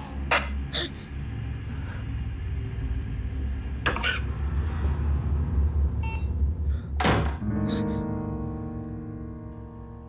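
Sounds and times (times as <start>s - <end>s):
low rumbling drone: 0.0s - 10.0s.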